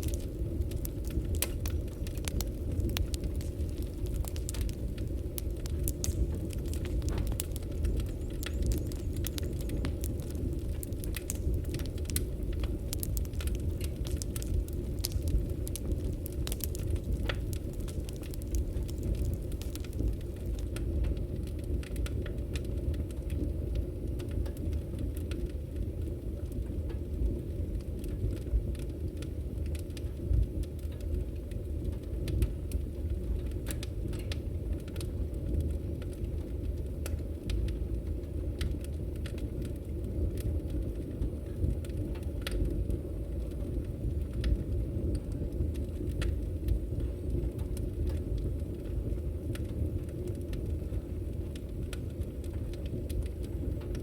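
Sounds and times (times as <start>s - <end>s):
burning logs crackling and popping: 0.0s - 54.0s
fire rumbling: 0.0s - 54.0s.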